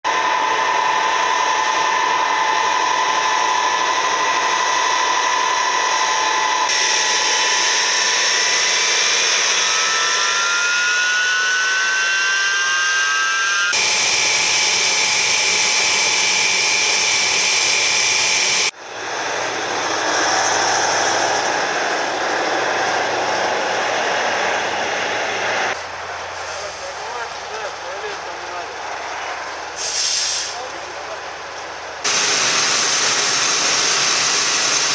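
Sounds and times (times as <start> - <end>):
loud engine with high whine: 0.0 - 34.9.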